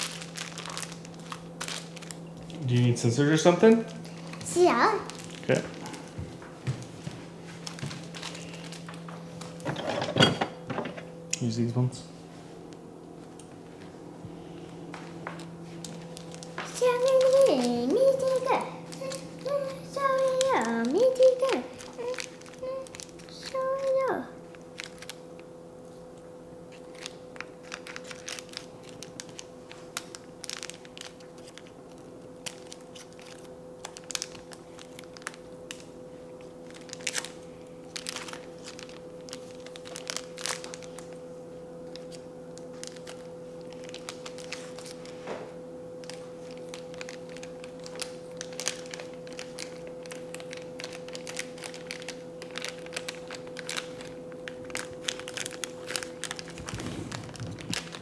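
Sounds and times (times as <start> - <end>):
packet crinkling: 0.0 - 6.2, 7.5 - 9.7, 14.9 - 25.5, 26.7 - 45.2, 45.9 - 58.0
steady hum: 0.0 - 58.0.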